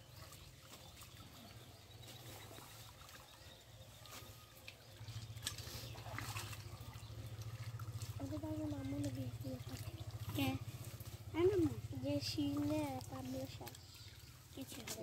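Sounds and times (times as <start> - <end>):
low steady hum: 0.0 - 14.9
water trickling and dripping: 0.0 - 15.0.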